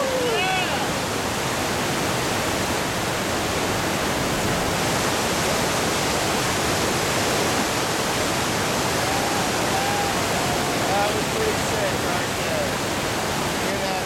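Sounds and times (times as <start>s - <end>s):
whitewater rushing over boulders: 0.0s - 14.0s.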